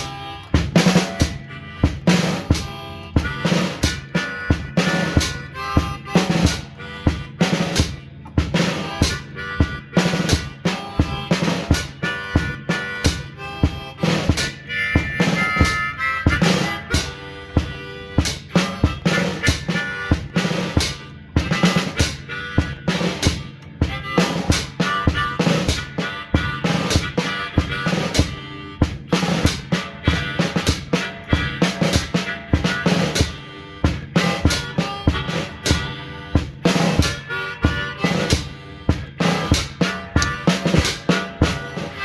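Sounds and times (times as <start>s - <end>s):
blues harmonica: 0.0s - 42.0s
steady drum beat: 0.0s - 42.0s.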